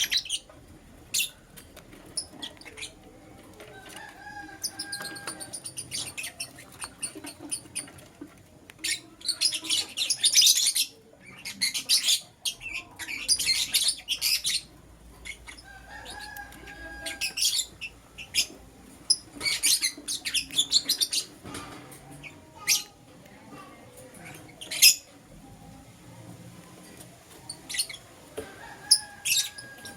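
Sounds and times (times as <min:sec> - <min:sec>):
lovebirds chirping: 0:00.0 - 0:08.1, 0:08.7 - 0:25.8, 0:26.9 - 0:29.9.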